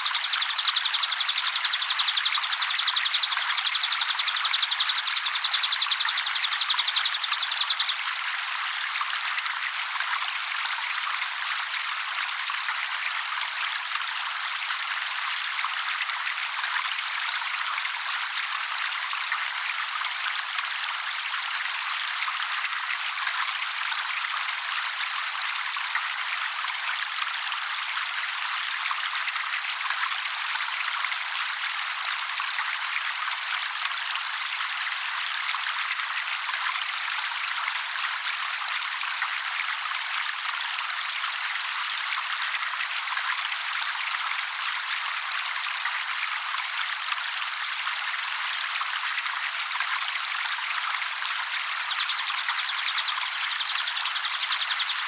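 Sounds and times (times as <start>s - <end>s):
trickling water: 0.0s - 41.4s, 42.0s - 55.0s.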